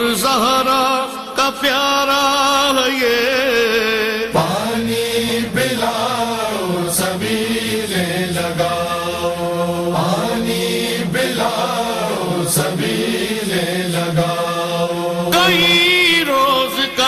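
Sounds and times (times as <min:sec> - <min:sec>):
men chanting slow melody: 0:00.0 - 0:17.0.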